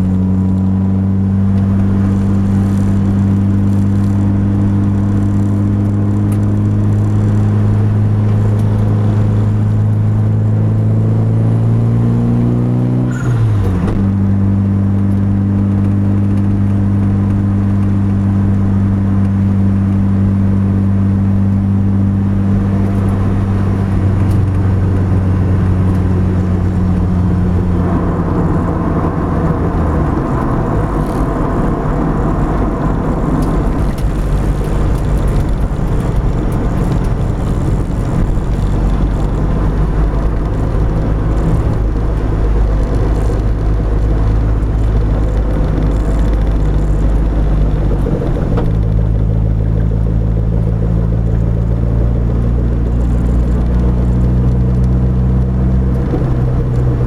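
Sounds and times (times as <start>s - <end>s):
car engine from inside cabin: 0.0s - 57.0s
tyre and wind noise: 0.0s - 57.0s.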